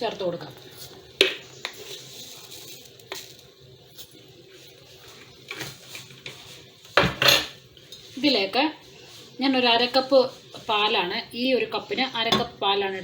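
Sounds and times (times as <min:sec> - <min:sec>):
water boiling in a saucepan: 0:00.0 - 0:13.0.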